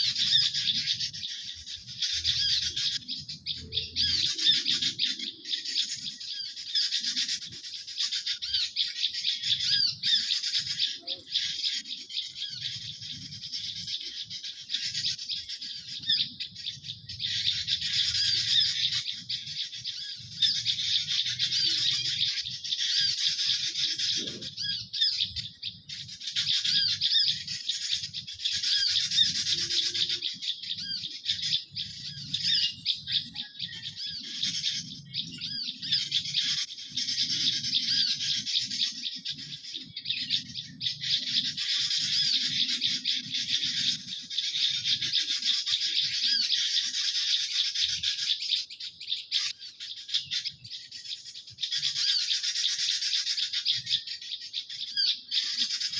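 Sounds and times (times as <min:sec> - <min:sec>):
songbirds chirping and twittering: 0:00.0 - 0:55.9.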